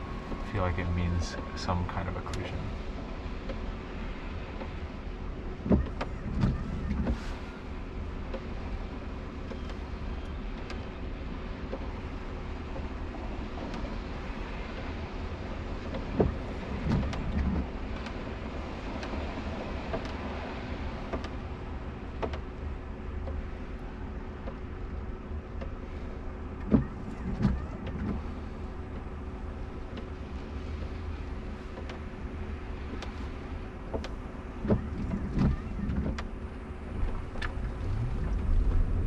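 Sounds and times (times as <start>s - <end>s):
low rumble inside car: 0.0s - 39.0s.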